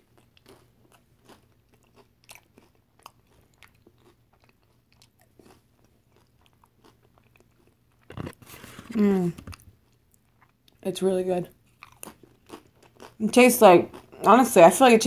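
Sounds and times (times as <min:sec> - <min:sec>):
chewing crunchy chips: 0:00.0 - 0:10.9, 0:11.5 - 0:14.4.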